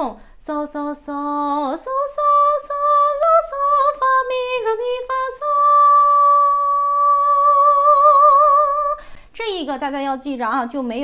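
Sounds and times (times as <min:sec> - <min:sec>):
woman singing unaccompanied: 0:00.0 - 0:09.1.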